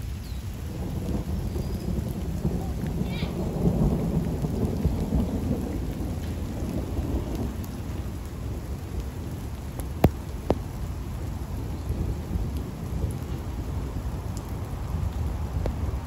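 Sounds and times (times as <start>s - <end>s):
distant thunder rumbling: 0.0s - 16.0s
rain: 0.0s - 16.0s.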